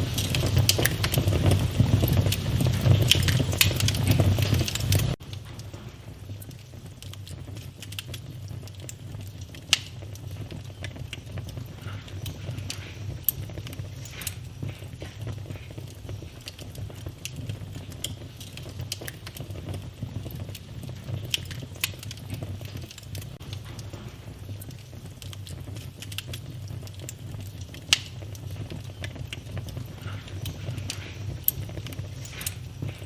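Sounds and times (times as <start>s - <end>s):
fire popping loudly: 0.0s - 33.0s
fire rumbling and crackling: 0.0s - 33.0s.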